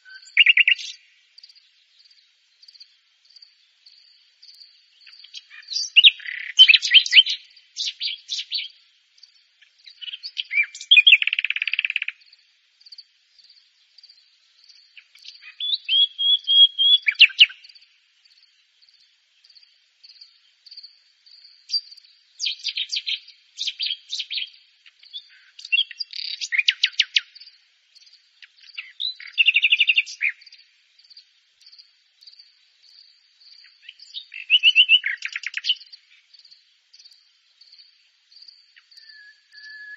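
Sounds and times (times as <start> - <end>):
high insect chirping: 0.0 - 39.9
nightingale singing: 0.0 - 39.9.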